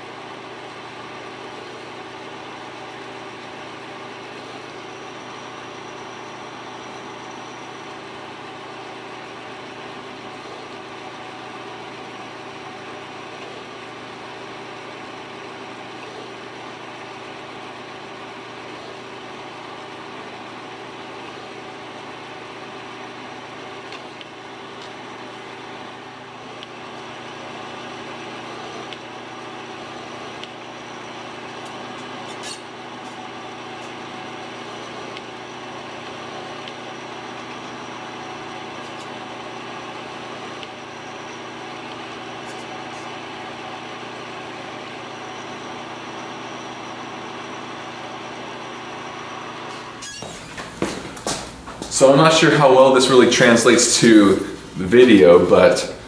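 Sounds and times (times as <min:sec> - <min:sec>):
machine spindle motor hum: 0:00.0 - 0:56.0.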